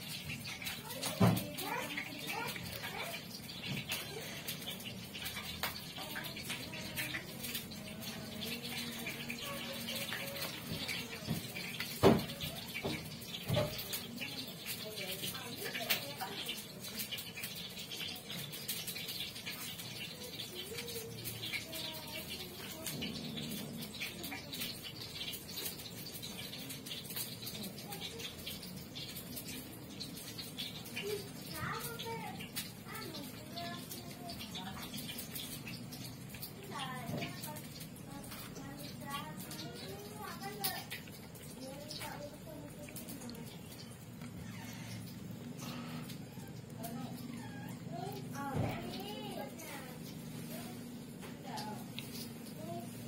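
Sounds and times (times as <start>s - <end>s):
cats chewing wet food: 0.0s - 53.0s.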